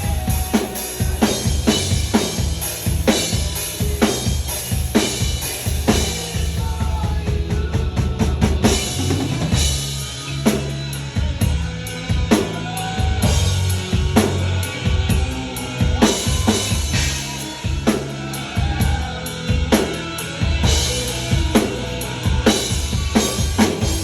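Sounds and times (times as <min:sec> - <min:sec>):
backing track with bass and melody: 0:00.0 - 0:24.0
drum kit playing: 0:00.0 - 0:24.0.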